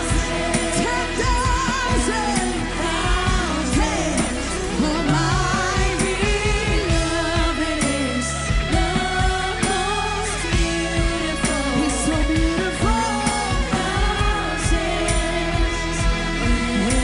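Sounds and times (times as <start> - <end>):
person singing: 0.0 - 17.0
sustained low bass: 0.0 - 17.0.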